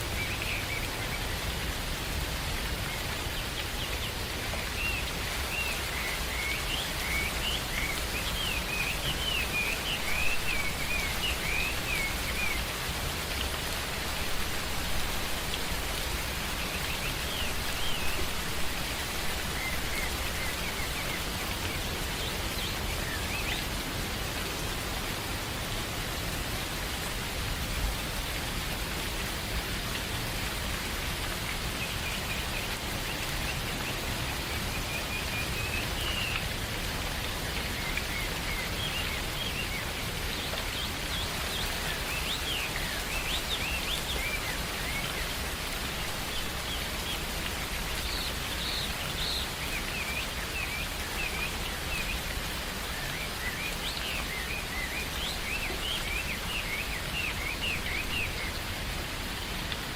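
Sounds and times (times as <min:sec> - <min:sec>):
rain falling on foliage: 0:00.0 - 0:59.9.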